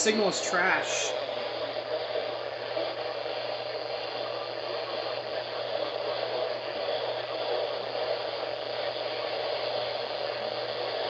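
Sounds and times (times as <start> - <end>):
faint radio broadcast audio: 0.0 - 11.0
radio static hiss: 0.0 - 11.0.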